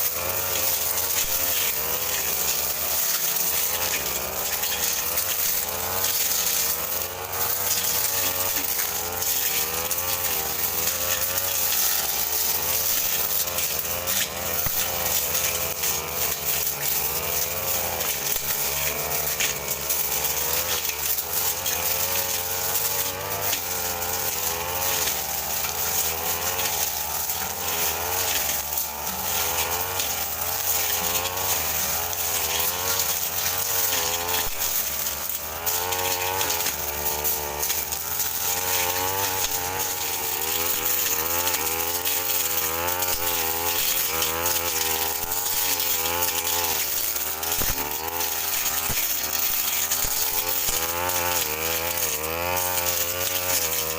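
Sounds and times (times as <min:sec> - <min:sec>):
brush cutter engine running: 0:00.0 - 0:53.9.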